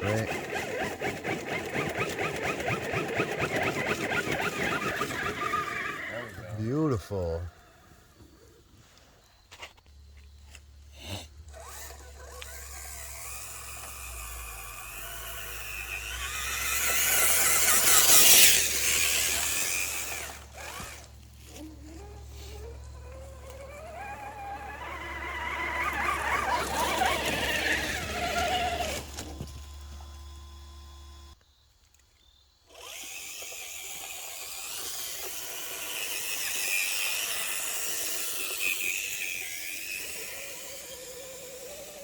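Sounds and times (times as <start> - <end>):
toy car electric motor whining: 0.0 - 8.4, 9.5 - 31.4, 32.7 - 42.0.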